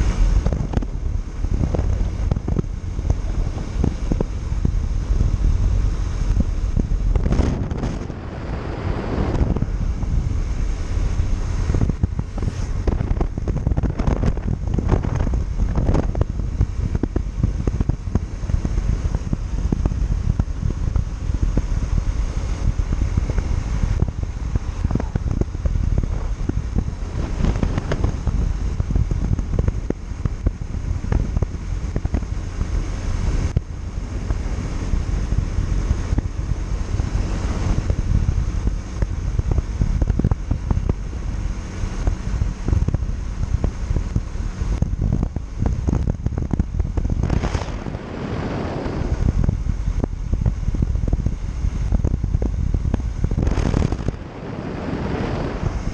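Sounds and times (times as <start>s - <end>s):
motorcycle engine: 0.0s - 55.9s
road noise: 0.0s - 55.9s
wind buffeting microphone: 0.0s - 55.9s.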